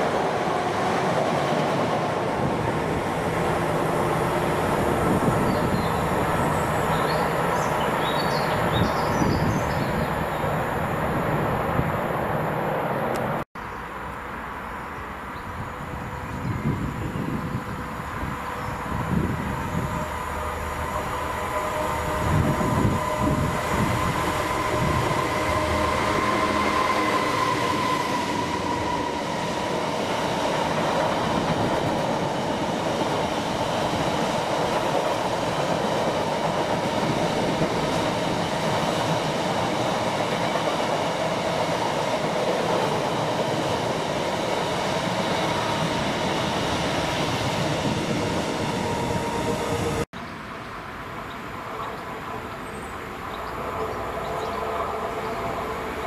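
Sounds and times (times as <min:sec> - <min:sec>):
diesel locomotive engine: 0:00.0 - 0:13.4, 0:15.5 - 0:56.0.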